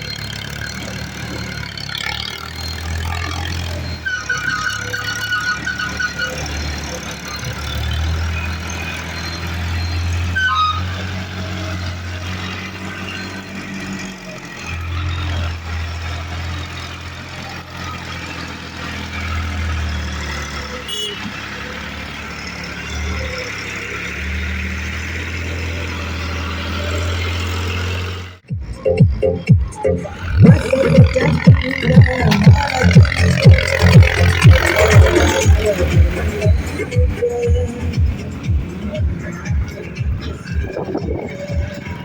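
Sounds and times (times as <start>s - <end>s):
tractor diesel engine droning: 0.0s - 42.0s.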